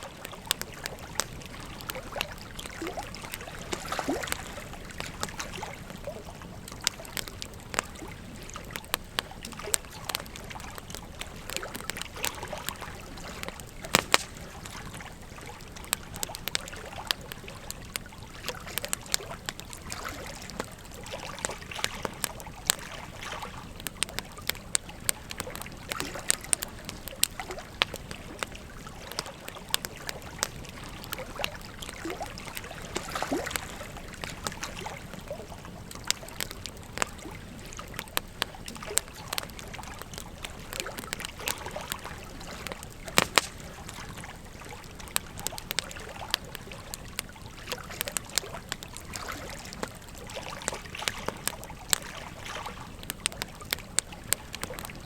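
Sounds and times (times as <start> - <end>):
flowing river water: 0.0 - 55.0
wood fire crackling and popping: 0.0 - 55.0.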